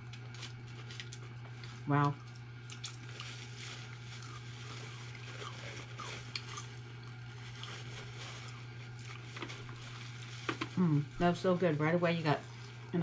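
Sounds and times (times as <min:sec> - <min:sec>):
wet chewing: 0:00.0 - 0:10.7.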